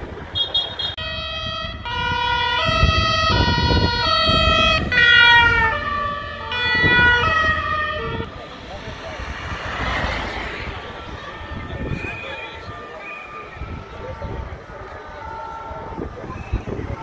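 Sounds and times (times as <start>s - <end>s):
two-tone police siren: 0.4s - 8.3s, 10.2s - 17.0s.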